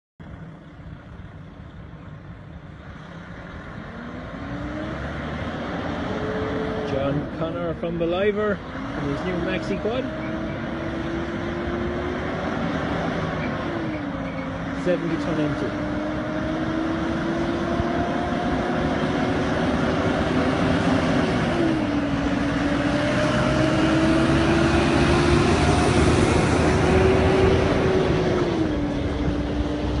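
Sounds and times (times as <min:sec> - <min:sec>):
truck diesel engine: 0:00.2 - 0:30.0
truck tyres on road: 0:00.2 - 0:30.0.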